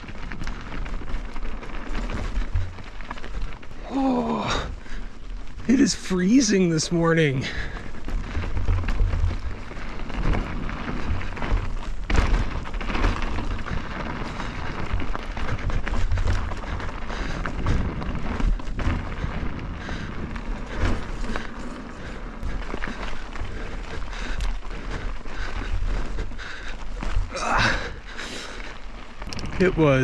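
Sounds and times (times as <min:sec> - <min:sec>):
bike rattling and knocking: 0:00.0 - 0:30.0
bike tyres rumbling on rocks: 0:00.0 - 0:30.0.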